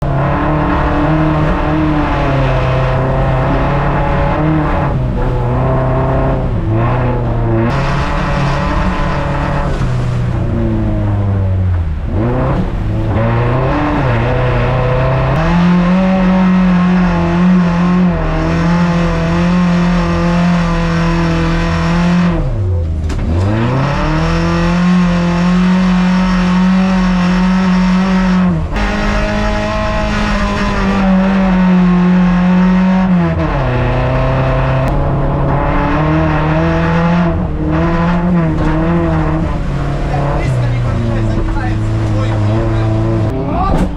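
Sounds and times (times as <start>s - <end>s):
car engine at high revs: 0.0s - 43.9s.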